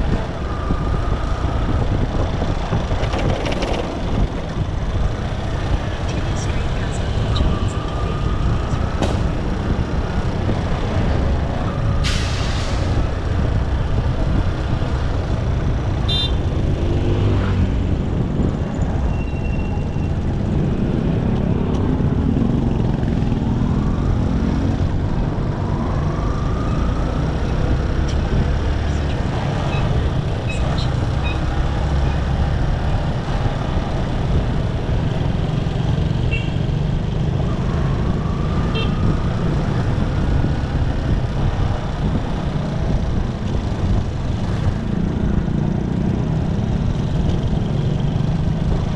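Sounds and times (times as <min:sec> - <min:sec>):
passing traffic: 0:00.0 - 0:48.9
road and wind noise: 0:00.0 - 0:48.9.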